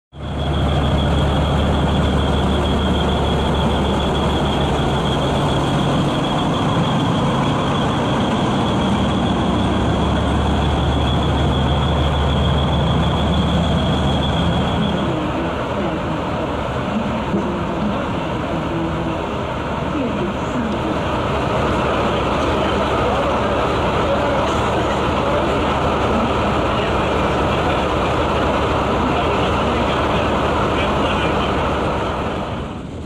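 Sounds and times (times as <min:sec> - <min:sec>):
diesel engine drone: 0:00.1 - 0:33.0
high whine: 0:00.1 - 0:33.0.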